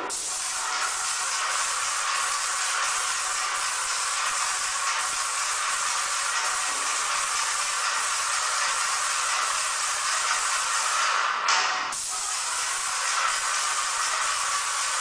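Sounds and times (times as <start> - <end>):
paint spray gun hissing: 0.1 - 11.3, 11.9 - 15.0.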